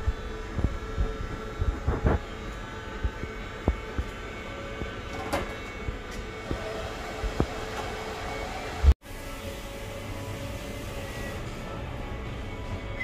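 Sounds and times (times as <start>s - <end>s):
steady room hum: 0.0s - 13.0s.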